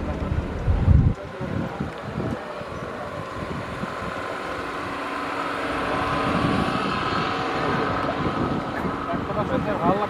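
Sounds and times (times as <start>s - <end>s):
motor hum: 0.0s - 10.0s.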